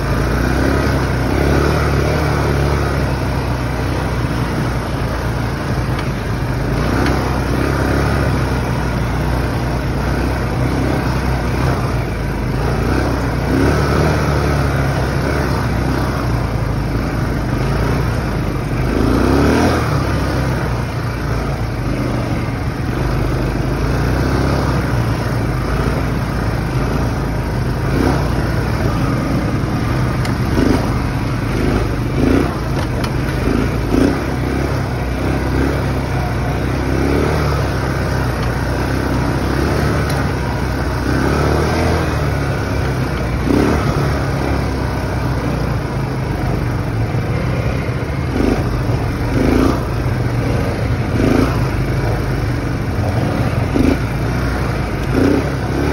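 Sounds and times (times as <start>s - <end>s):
atv engine droning: 0.0s - 55.9s.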